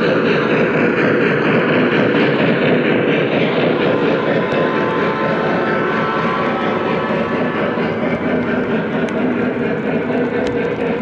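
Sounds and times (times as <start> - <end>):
model train wheels rumbling: 0.0 - 11.0.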